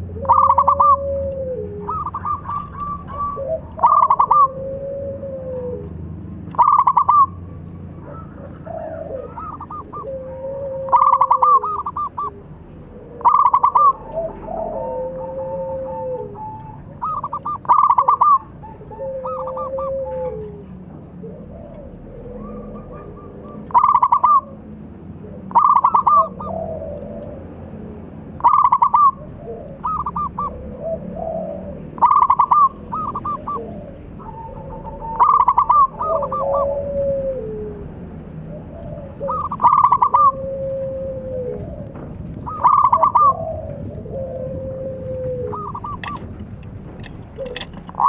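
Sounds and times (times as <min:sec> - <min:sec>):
doves cooing: 0:00.0 - 0:48.0.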